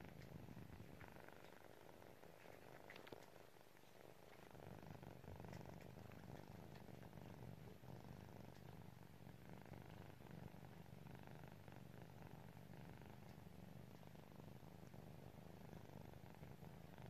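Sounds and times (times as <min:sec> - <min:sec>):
kittens purring: 0:00.0 - 0:17.0.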